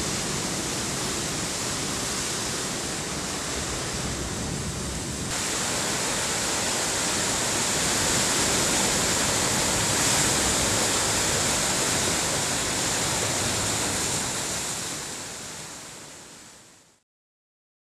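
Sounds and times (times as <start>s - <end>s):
ocean surf rushing: 0.0s - 16.7s.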